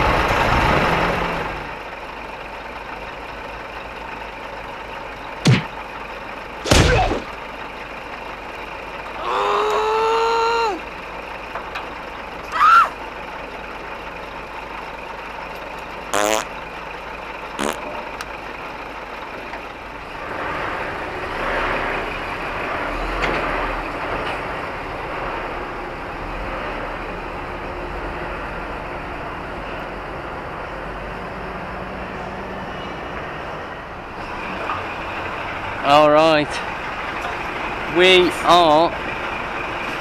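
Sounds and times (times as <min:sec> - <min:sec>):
heavy truck noise: 0:00.0 - 0:40.0
heavy vehicle rumble: 0:00.0 - 0:40.0.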